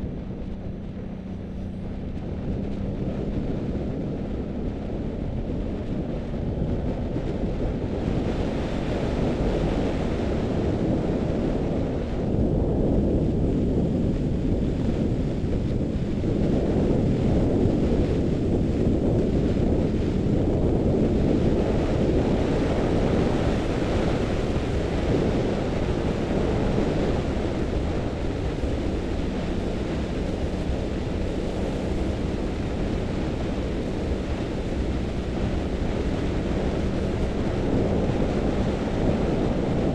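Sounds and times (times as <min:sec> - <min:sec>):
faint engine hum: 0:00.0 - 0:39.9
wind buffeting microphone: 0:00.0 - 0:39.9.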